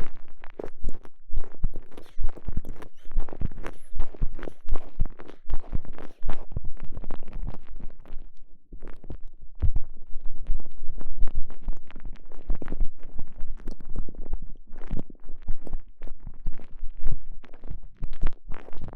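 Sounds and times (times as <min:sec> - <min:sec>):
squishing and rubbing on microphone: 0:00.0 - 0:18.9.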